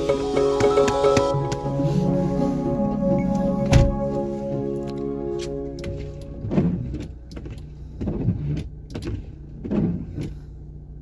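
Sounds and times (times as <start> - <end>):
windshield wipers sweeping: 0.0 - 10.5
steady low hum: 0.0 - 11.0.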